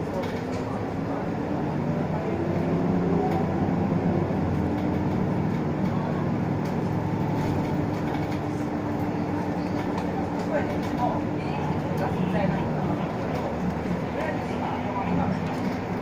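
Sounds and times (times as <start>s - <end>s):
bus diesel engine humming: 0.0s - 16.0s
rattle and road noise: 0.0s - 16.0s.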